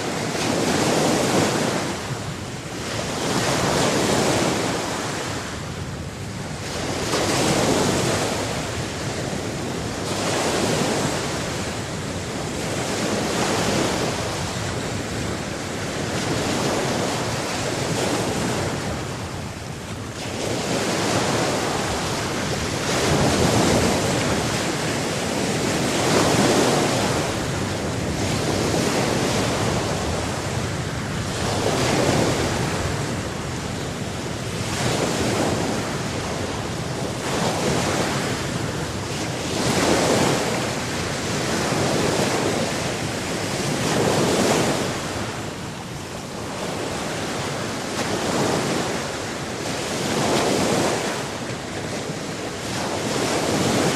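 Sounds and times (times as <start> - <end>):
ocean waves breaking: 0.0 - 53.9
wind on microphone: 0.0 - 53.9.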